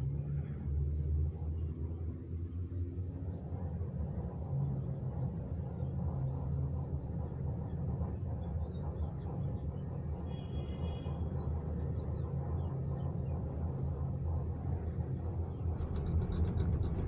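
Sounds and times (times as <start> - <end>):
cable car cabin rumbling: 0.0 - 17.0.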